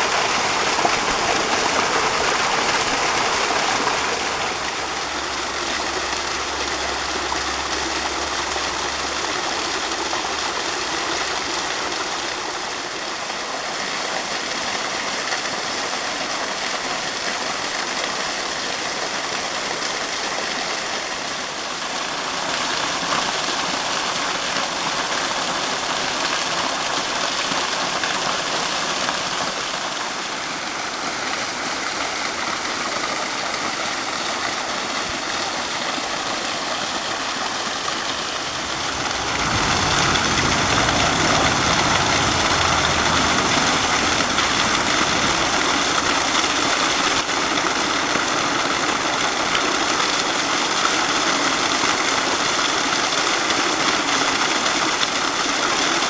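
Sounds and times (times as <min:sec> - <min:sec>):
waterfall splashing on stones: 0:00.0 - 0:56.0.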